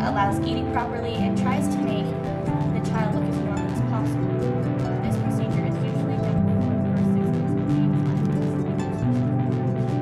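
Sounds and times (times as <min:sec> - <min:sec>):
faint steady pulse: 0:00.0 - 0:10.0
sustained background music: 0:00.0 - 0:10.0.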